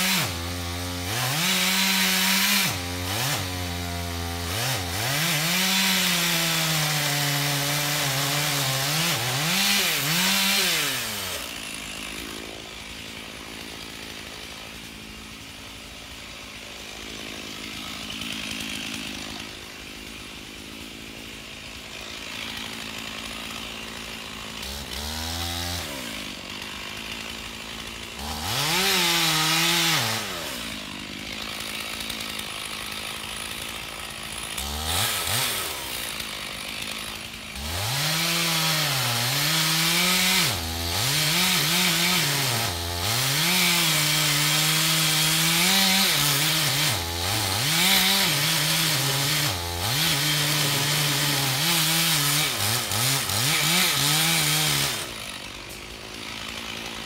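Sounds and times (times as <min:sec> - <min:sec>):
chainsaw cutting tree: 0:00.0 - 0:57.0.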